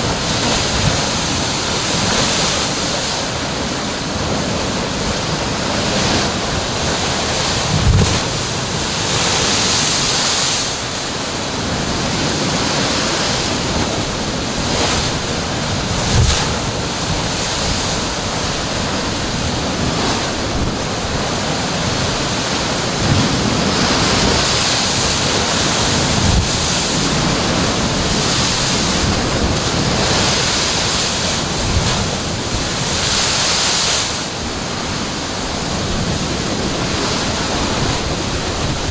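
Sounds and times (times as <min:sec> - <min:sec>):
ocean surf crashing on rocks: 0:00.0 - 0:38.9.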